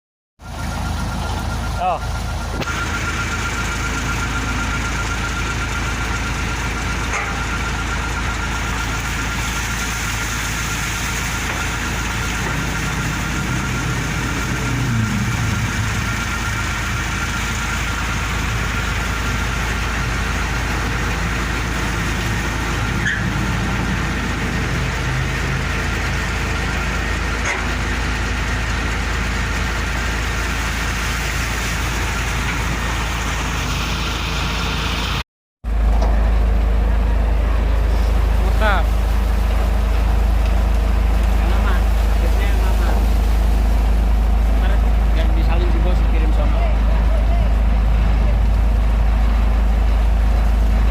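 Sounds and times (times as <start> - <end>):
diesel engine running: 0.4 - 50.9
hydraulic pump whine: 0.4 - 50.9.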